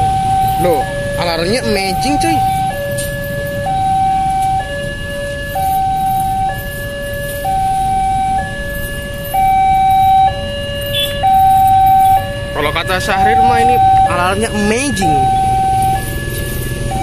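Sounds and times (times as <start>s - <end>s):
level crossing two-tone alarm: 0.0s - 17.0s
road traffic rumble: 0.0s - 17.0s.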